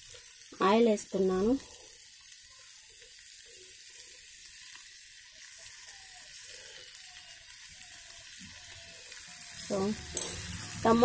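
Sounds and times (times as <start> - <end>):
tomatoes sizzling in hot oil: 0.0 - 11.0.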